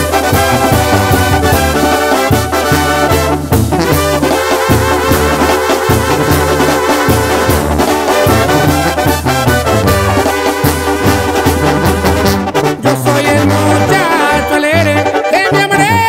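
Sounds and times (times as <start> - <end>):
bass line: 0.0 - 16.0
brass horns playing: 0.0 - 16.0.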